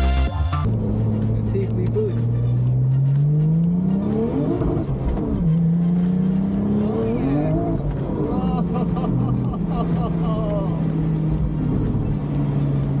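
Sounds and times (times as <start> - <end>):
car engine accelerating hard: 0.6 - 13.0.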